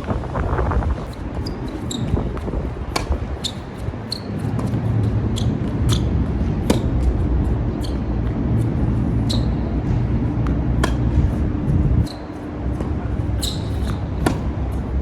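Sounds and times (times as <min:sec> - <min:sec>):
wind buffeting microphone: 0:00.0 - 0:13.4
court shoes squeaking: 0:00.0 - 0:15.0
tennis balls hit and bouncing: 0:01.0 - 0:15.0.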